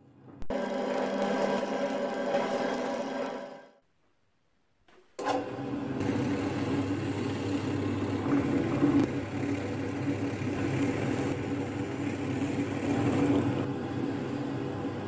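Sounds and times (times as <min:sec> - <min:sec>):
drill press motor humming: 0:00.4 - 0:03.8, 0:05.2 - 0:15.0.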